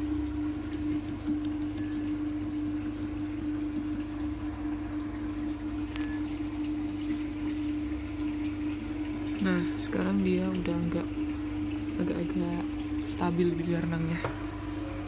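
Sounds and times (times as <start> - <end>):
air pump humming: 0.0 - 15.0
airstone bubbling in water: 0.0 - 15.0.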